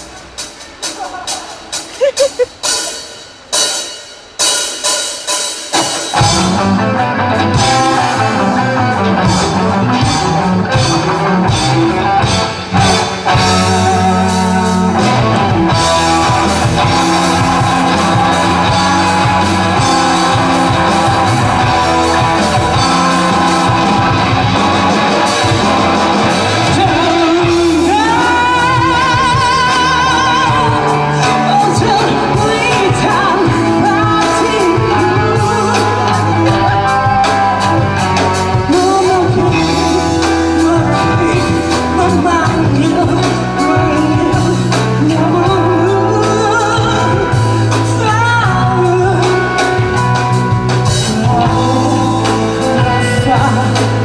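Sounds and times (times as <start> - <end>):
rock band playing: 0.0 - 54.0
person singing: 0.8 - 3.0, 6.2 - 54.0.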